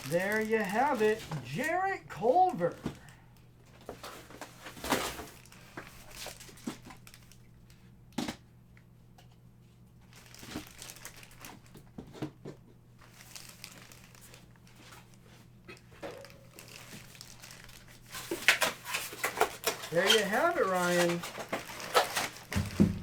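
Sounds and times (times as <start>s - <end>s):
plastic packaging crinkling: 0.0s - 3.1s, 3.8s - 7.8s, 10.0s - 11.8s, 13.0s - 23.0s.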